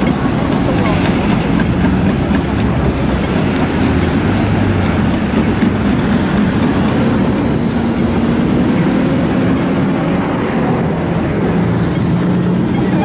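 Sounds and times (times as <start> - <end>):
steel scraper on blade: 0.0 - 13.0
vehicle engine rumbling: 0.0 - 13.0.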